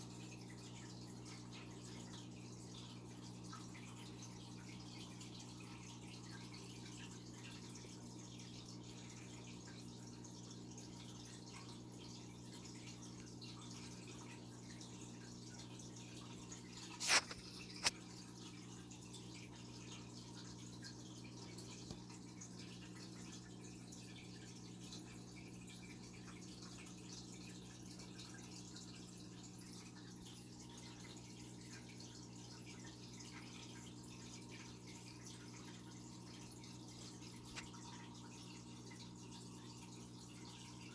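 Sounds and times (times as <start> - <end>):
aquarium filter hum: 0.0 - 40.9
water trickling and dripping: 0.0 - 40.9.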